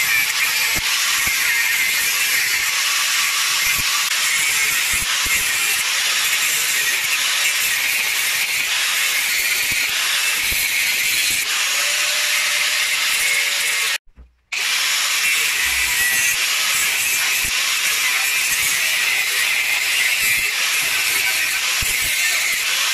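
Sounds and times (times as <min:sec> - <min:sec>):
angle grinder grinding steel: 0:00.0 - 0:22.9.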